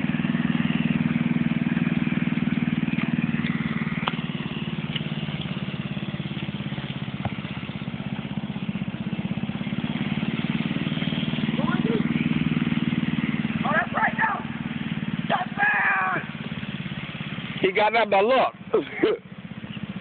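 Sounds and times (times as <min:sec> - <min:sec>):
small tractor engine running: 0:00.0 - 0:20.0.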